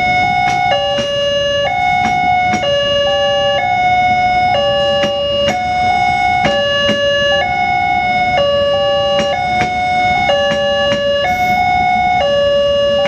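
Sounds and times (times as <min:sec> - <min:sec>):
level crossing sirens two-tone: 0:00.0 - 0:13.0.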